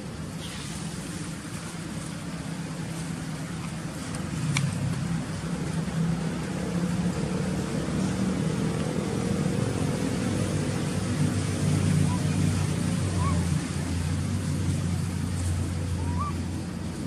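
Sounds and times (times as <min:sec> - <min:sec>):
motor engine humming: 0:01.1 - 0:17.0.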